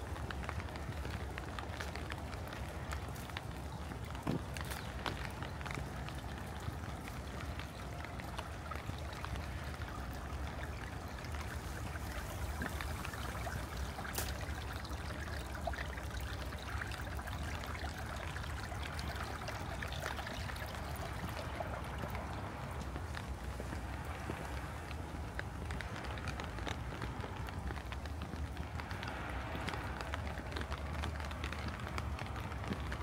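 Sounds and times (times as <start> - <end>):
water drips: 0.0 - 33.0
water running and trickling: 0.0 - 33.0.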